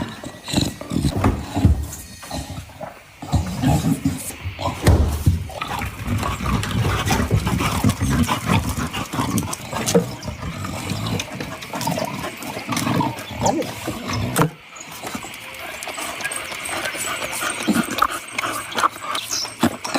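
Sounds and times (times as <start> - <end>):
dog growling: 0.0 - 19.9.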